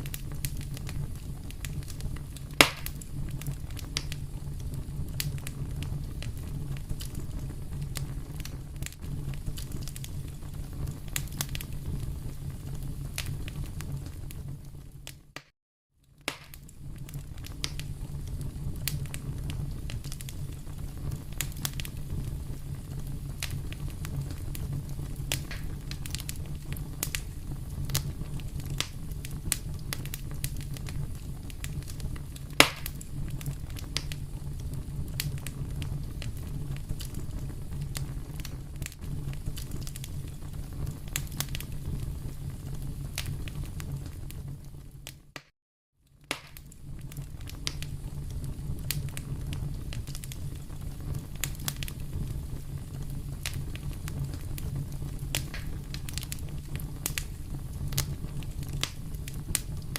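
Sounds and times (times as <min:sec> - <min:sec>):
pops and snaps of fire: 0:00.0 - 0:45.5, 0:46.1 - 0:59.9
fire crackling: 0:00.0 - 0:59.9.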